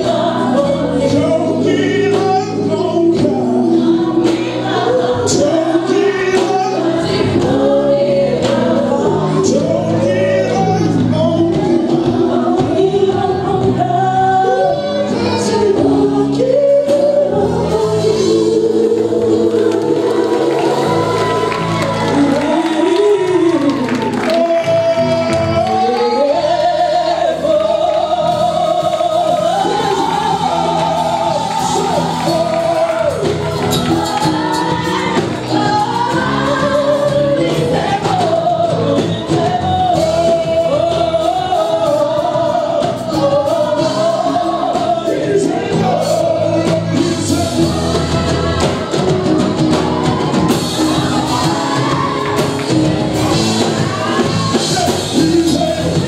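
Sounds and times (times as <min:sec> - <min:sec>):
group singing gospel song: 0:00.0 - 0:56.0
instrumental backing: 0:00.0 - 0:56.0.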